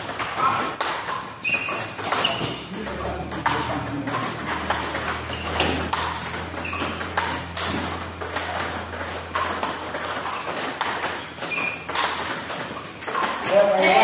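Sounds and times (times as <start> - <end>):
table tennis balls clicking: 0.0 - 14.0.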